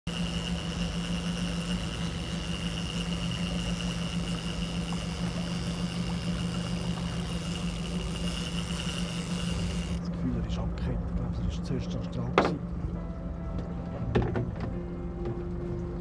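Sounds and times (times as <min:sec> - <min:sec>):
boat motor running: 0:00.1 - 0:16.0.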